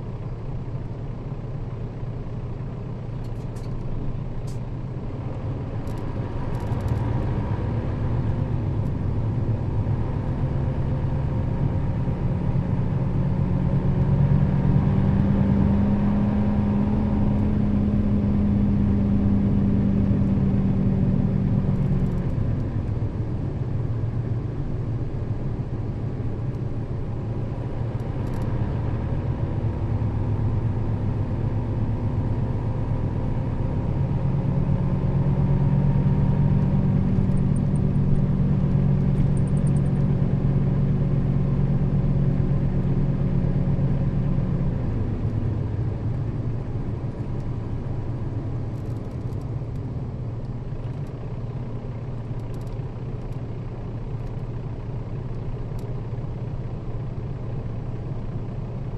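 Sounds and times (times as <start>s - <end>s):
bus engine running: 0.0s - 58.9s.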